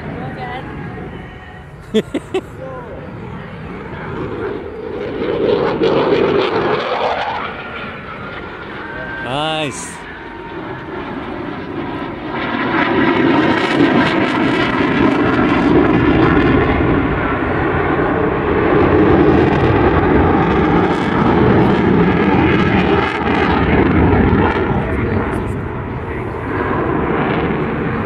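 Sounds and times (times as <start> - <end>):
fighter jet roar overhead: 0.0 - 28.0.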